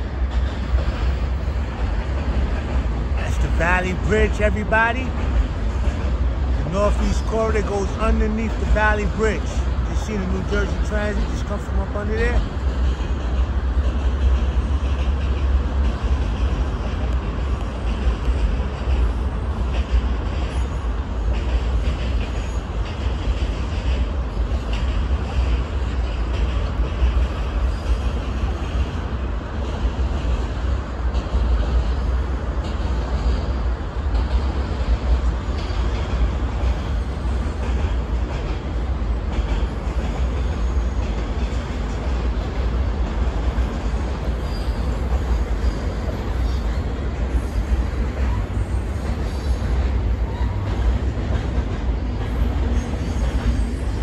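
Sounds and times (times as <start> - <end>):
freight train wheels rumbling on rail: 0.0 - 54.0.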